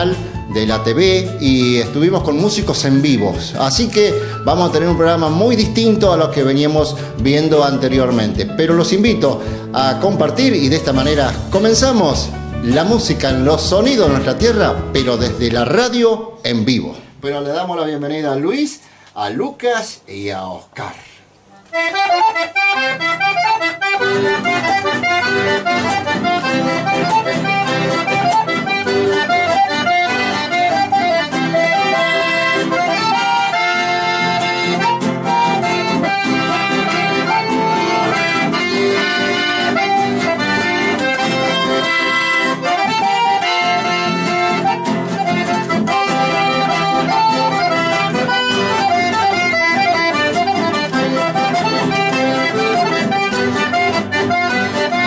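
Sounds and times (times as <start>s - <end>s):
accordion folk music: 0.0s - 17.2s, 21.5s - 55.0s.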